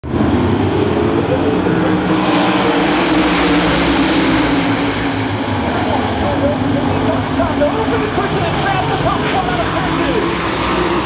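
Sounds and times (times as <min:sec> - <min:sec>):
race car engines howling: 0:00.0 - 0:11.0.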